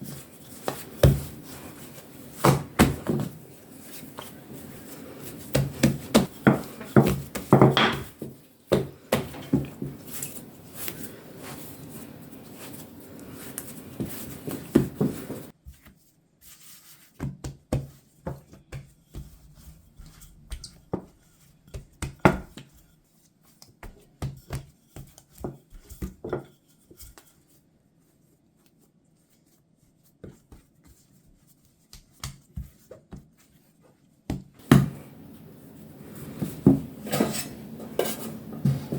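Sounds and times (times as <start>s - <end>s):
hands kneading bread dough: 0.0s - 38.9s.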